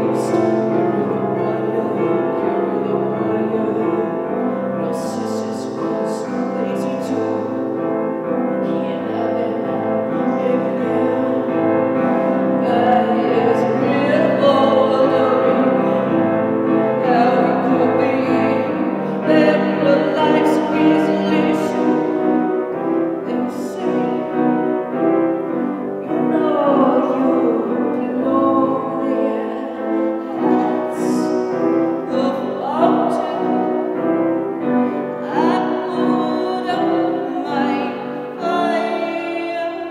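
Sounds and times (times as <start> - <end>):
woman singing: 0.0 - 25.1, 25.9 - 39.9
piano chords: 0.0 - 39.9.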